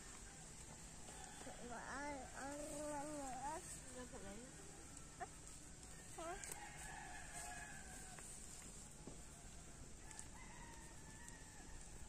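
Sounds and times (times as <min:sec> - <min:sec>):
faint rooster crowing: 0:00.0 - 0:03.5, 0:04.5 - 0:12.0.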